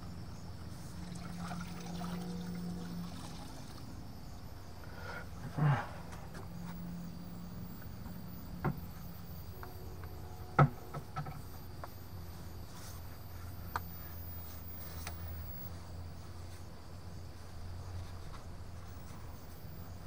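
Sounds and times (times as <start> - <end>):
faint high chirring: 0.0 - 20.0
low steady hum: 0.0 - 20.0.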